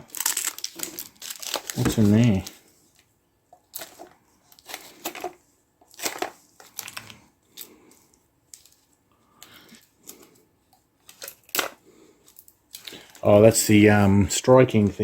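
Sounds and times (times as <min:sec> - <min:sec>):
packaging rustling and crinkling: 0:00.0 - 0:10.4, 0:11.0 - 0:13.4.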